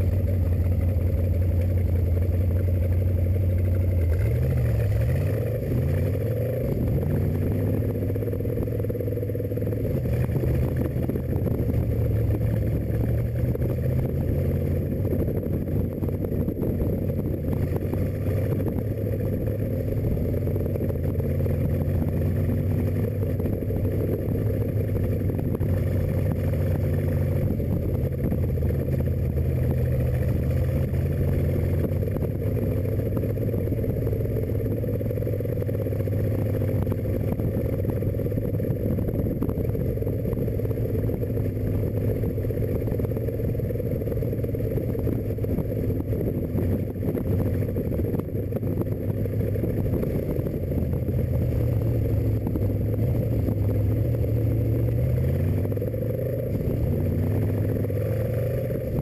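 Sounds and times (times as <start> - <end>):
car engine cruising: 0.0 - 59.0.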